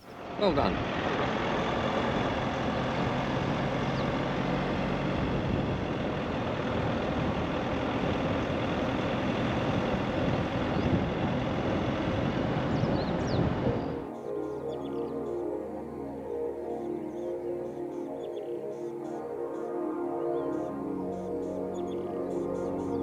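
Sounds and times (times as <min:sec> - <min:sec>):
car road and engine noise: 0:00.0 - 0:19.6.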